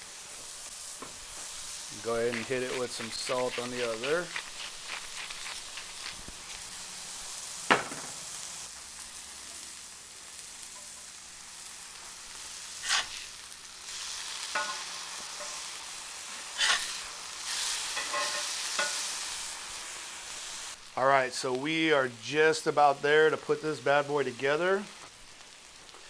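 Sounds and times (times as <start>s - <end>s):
burger patties sizzling on griddle: 0.0s - 26.0s.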